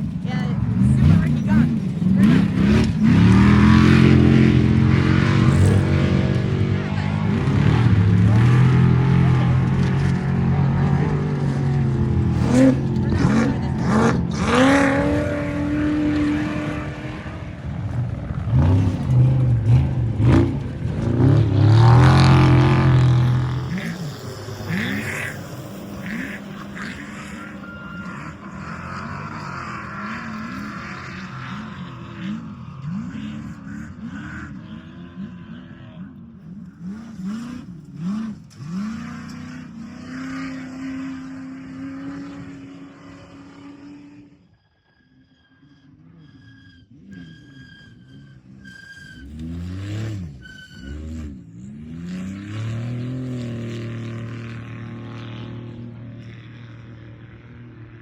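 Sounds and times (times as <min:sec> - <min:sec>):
race vehicle engine revving: 0:00.0 - 0:44.5, 0:45.9 - 0:58.0.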